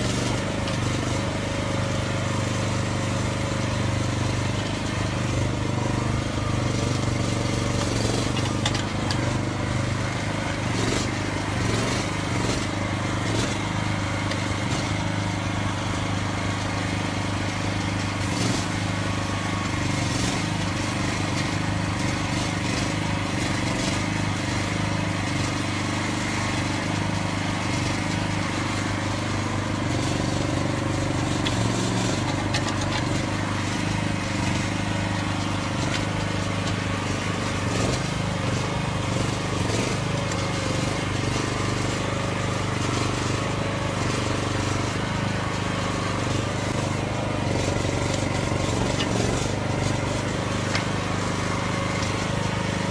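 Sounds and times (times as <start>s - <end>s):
small excavator engine running: 0.0s - 52.9s.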